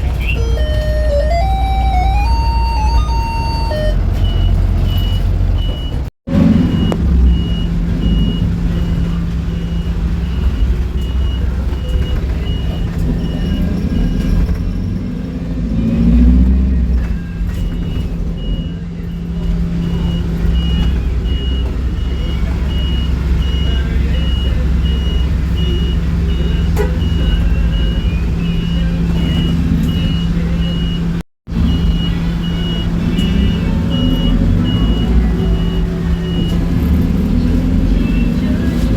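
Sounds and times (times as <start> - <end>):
bus engine idling: 0.0 - 38.9
door-warning beeper: 0.1 - 14.8, 16.8 - 38.8.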